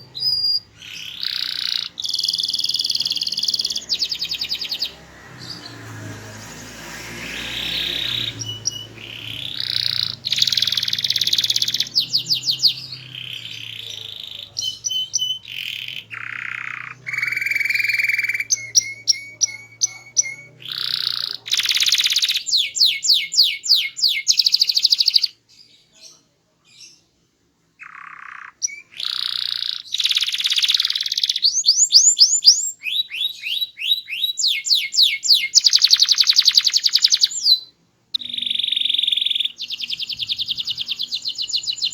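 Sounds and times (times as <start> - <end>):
canary singing: 0.0 - 27.1, 27.8 - 41.9.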